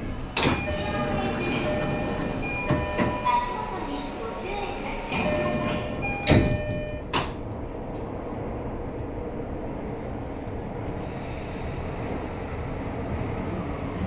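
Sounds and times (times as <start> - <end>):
train doors closing: 0.0 - 14.0
train interior rumble: 0.0 - 14.0.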